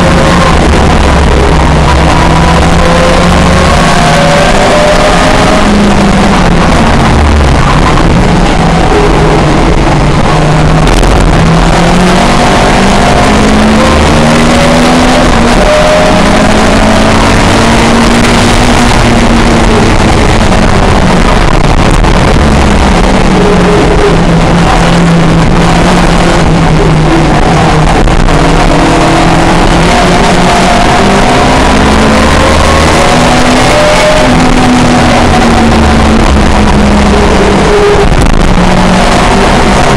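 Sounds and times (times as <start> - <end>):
racing car engine revving: 0.0 - 39.9
wind and road noise: 0.0 - 39.9.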